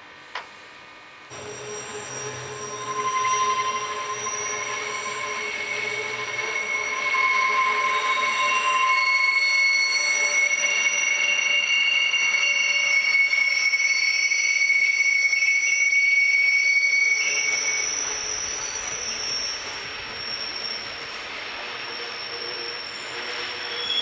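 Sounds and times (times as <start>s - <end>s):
train running noise: 0.0s - 15.3s, 16.4s - 24.0s
train wheels squealing on rails: 0.2s - 24.0s.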